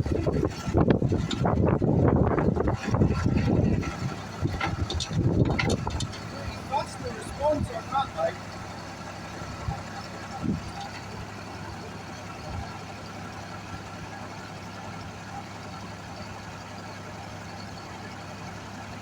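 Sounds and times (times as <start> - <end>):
diesel tractor engine revving: 0.0 - 19.0.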